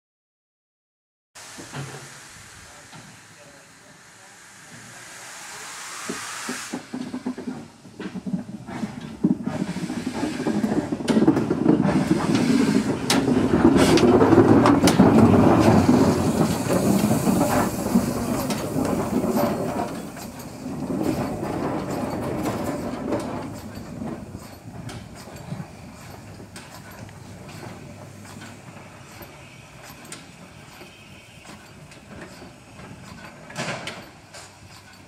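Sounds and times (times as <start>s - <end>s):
locomotive wheels rumbling: 1.4s - 35.0s
steam hissing: 1.4s - 35.0s.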